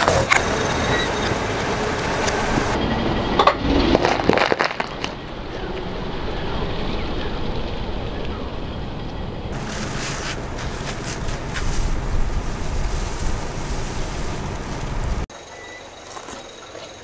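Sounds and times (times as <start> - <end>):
slow car rumble: 0.0 - 15.3.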